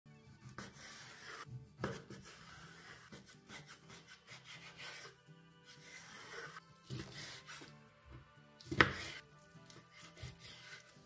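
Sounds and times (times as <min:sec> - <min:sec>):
knife slicing raw meat: 0:00.2 - 0:07.9, 0:08.6 - 0:11.0.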